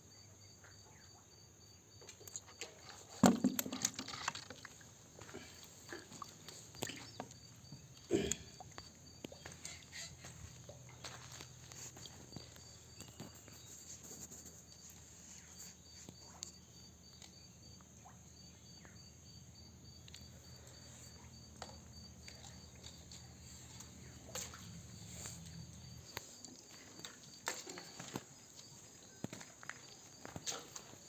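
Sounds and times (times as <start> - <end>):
insects buzzing: 0.1 - 31.0.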